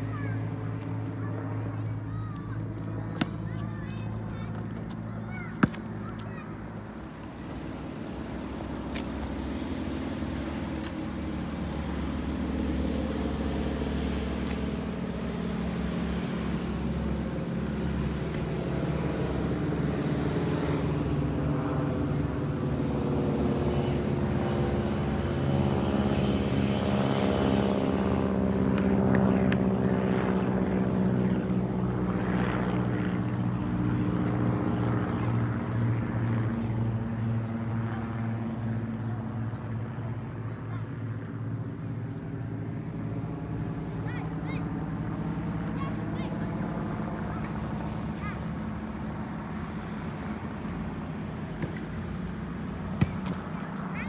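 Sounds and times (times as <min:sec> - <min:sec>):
propeller plane engines droning: 0:00.0 - 0:54.0.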